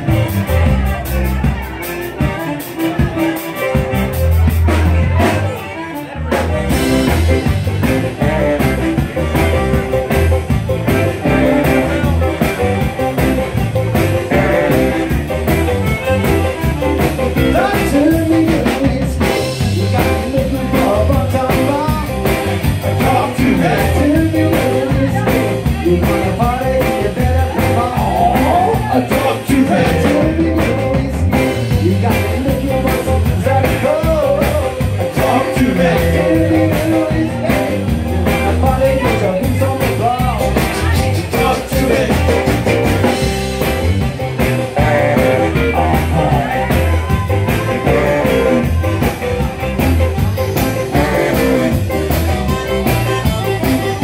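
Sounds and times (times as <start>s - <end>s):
live band playing dance music: 0.0s - 54.0s
person singing: 0.0s - 54.0s.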